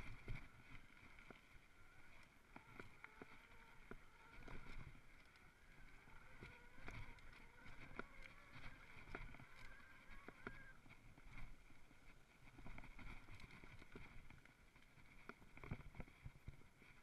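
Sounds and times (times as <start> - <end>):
bike tyre rumble on dirt: 0.0 - 17.0
faint steady whine: 0.0 - 17.0.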